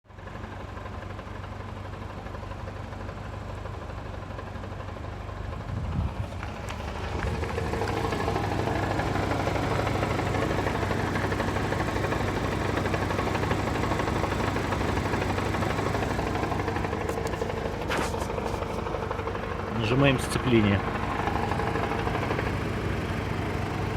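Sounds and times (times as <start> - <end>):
car engine idling: 0.1 - 23.9.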